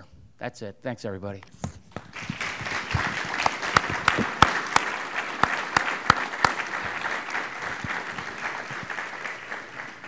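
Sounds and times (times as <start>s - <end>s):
audience applauding: 1.9s - 10.0s
person clapping close: 1.9s - 10.0s.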